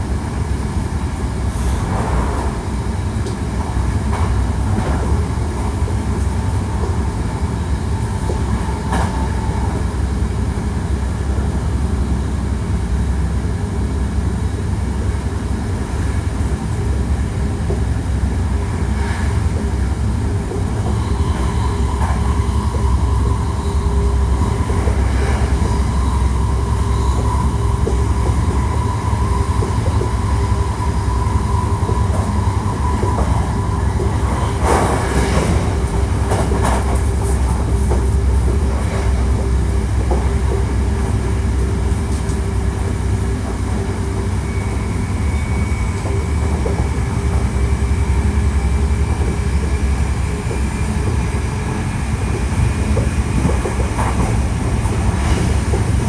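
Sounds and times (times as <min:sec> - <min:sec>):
train clattering over joints: 0:00.0 - 0:12.0, 0:13.6 - 0:56.0
train wheels rumbling on rail: 0:00.0 - 0:56.0.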